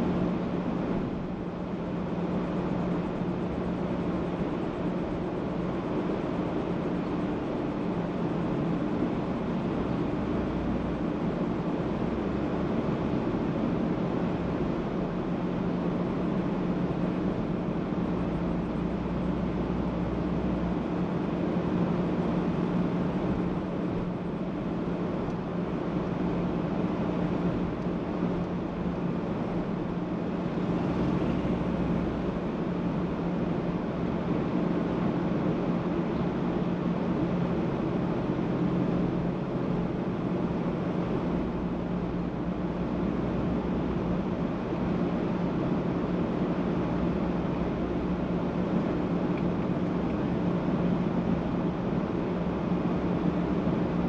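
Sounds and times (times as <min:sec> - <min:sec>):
low engine drone: 0:00.0 - 0:54.0.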